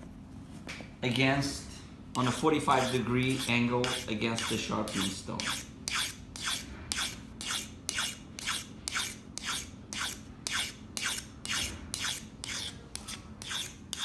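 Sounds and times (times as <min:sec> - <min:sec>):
steel scraping on sharpening stone: 0:02.2 - 0:14.0.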